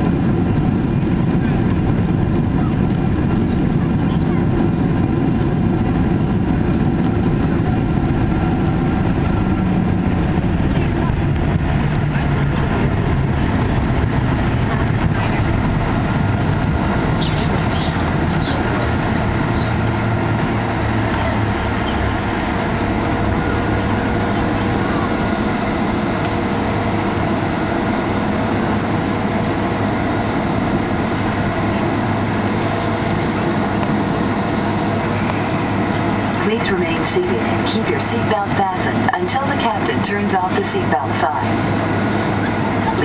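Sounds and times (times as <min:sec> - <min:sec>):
airplane cabin engine rumble: 0:00.0 - 0:43.0
low drone: 0:00.0 - 0:43.0.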